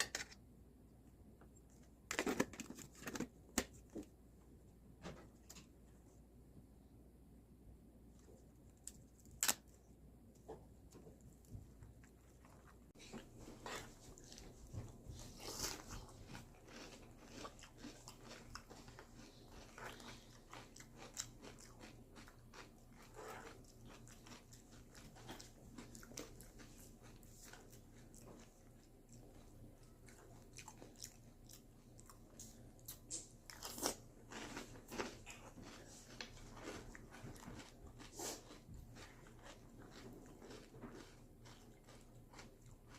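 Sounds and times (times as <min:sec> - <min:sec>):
crunching and chewing cereal: 0:01.6 - 0:04.1, 0:08.2 - 0:42.9.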